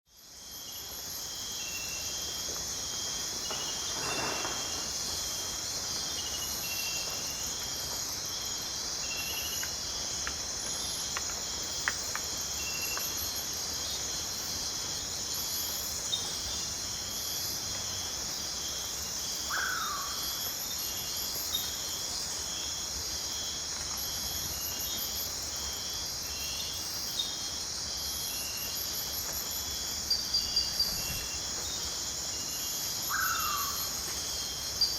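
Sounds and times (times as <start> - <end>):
insect trill: 0.1 - 34.9.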